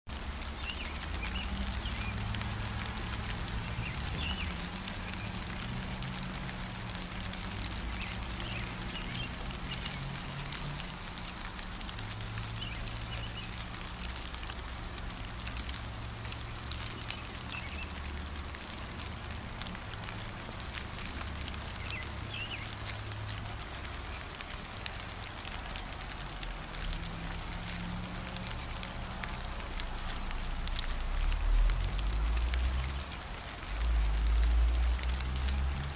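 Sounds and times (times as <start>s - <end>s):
rain on leafy plants: 0.1s - 35.9s.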